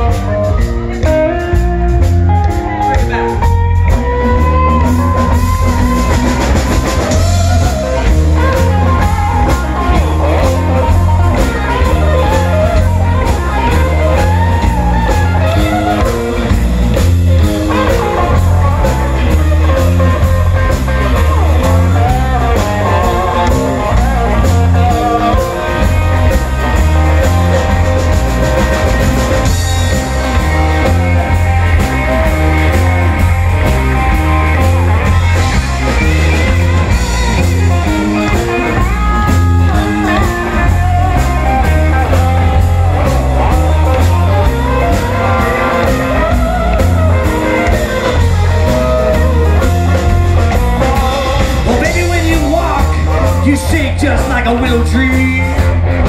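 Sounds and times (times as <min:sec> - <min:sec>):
electric blues band playing: 0:00.0 - 0:56.0
lead electric guitar bending: 0:00.0 - 0:56.0.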